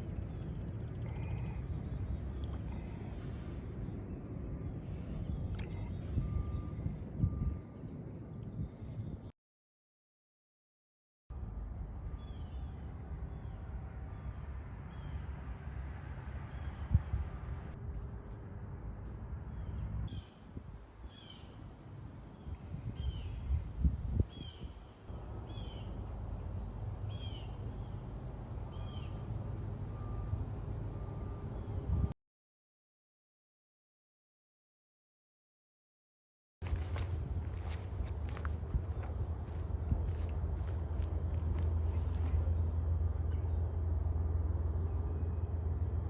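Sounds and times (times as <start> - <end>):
insect drone: 0.0 - 9.3, 11.3 - 32.1, 36.6 - 46.0.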